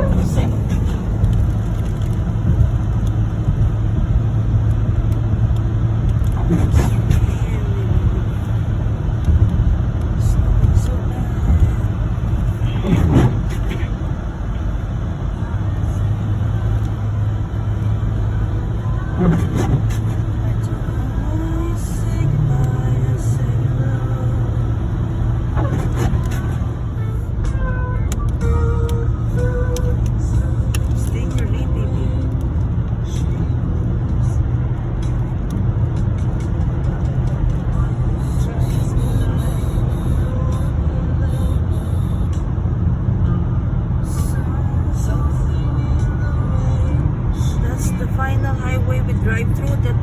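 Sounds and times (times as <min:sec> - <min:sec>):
truck engine hum: 0:00.0 - 0:50.0
tyre noise on road: 0:00.0 - 0:50.0.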